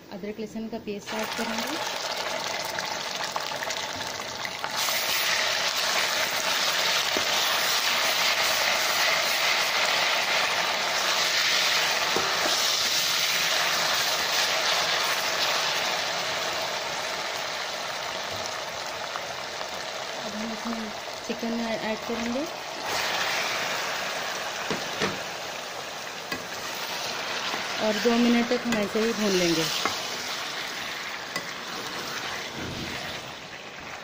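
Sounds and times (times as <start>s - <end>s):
paste sizzling in hot oil: 1.1s - 34.0s.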